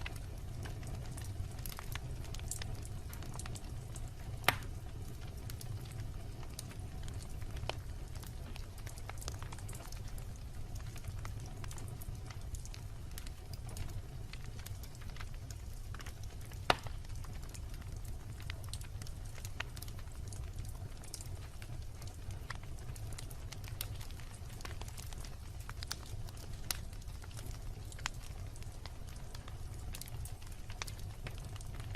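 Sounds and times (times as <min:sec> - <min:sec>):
burning wood crackling and popping: 0:00.0 - 0:31.9
campfire flames rumbling: 0:00.0 - 0:31.9.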